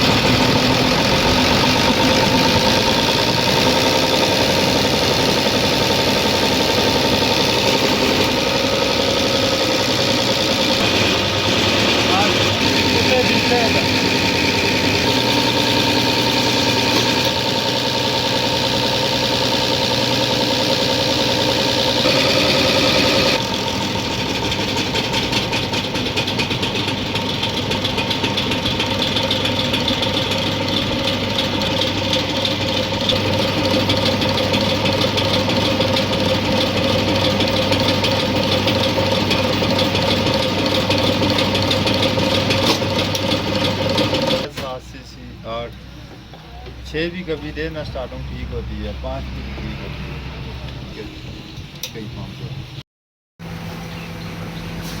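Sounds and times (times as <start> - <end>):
diesel engine idling: 0.0 - 51.4.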